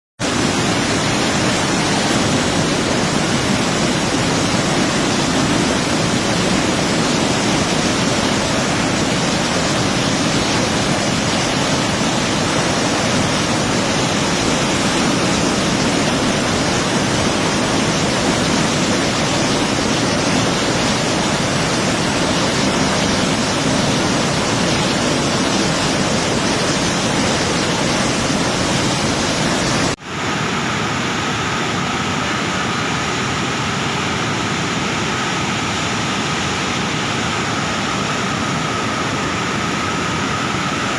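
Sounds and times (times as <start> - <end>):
floodwater rushing and roaring: 0.2 - 40.9.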